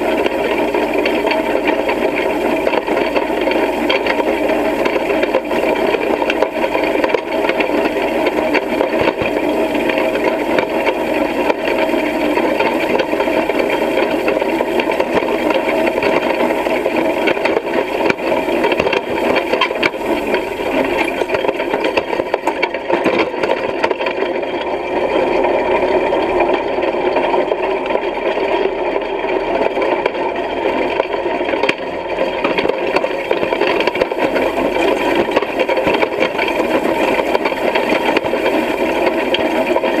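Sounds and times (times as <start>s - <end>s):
hay rake rattling and clattering: 0.0s - 24.4s, 32.4s - 40.0s.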